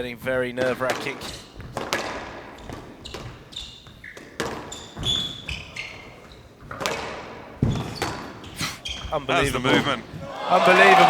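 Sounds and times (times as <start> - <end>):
shoes squeaking on court floor: 0.0 - 11.0
squash ball smacking walls: 0.6 - 10.3.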